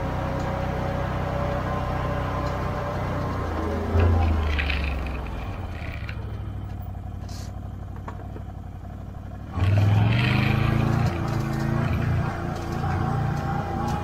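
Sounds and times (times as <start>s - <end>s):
atv engine running and revving: 0.0s - 14.0s.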